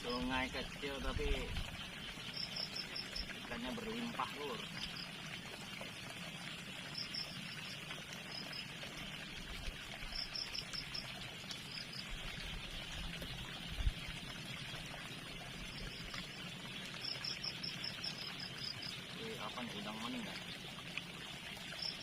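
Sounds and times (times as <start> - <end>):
small river flowing: 0.0 - 22.0.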